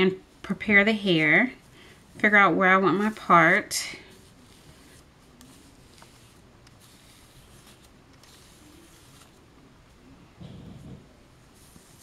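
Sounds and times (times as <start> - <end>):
comb through dry hair: 0.0 - 9.4, 11.5 - 12.0.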